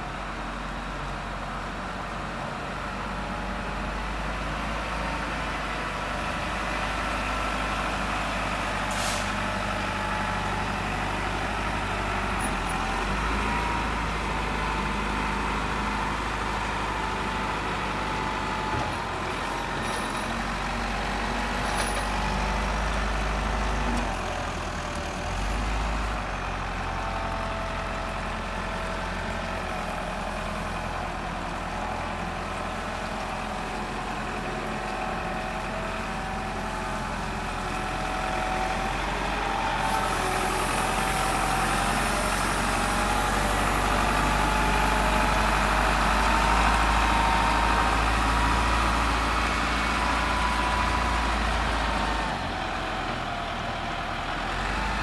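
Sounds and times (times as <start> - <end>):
wheel loader diesel engine running: 0.0 - 55.0.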